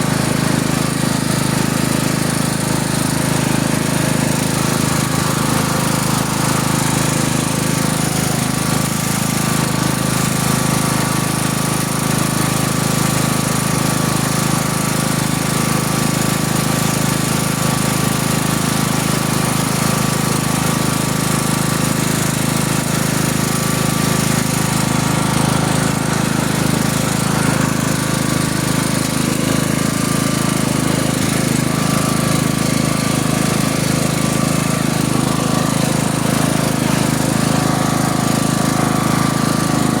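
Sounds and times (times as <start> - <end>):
tractor engine drone: 0.0 - 40.0.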